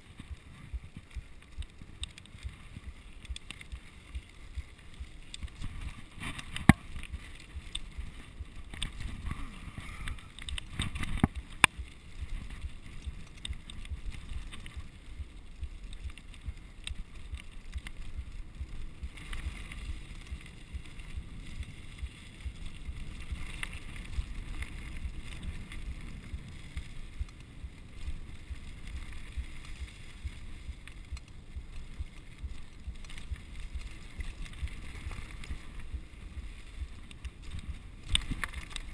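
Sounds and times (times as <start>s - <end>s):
bike tyres rumbling on dirt: 0.0s - 38.9s.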